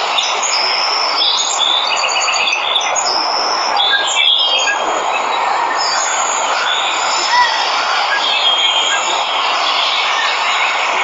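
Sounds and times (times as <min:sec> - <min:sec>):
birds chirping and whistling: 0:00.1 - 0:11.0.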